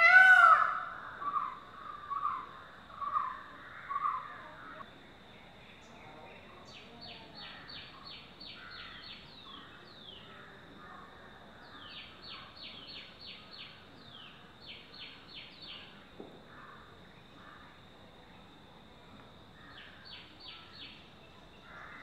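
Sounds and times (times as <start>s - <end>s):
songbird singing: 0.0s - 18.6s, 19.2s - 22.0s.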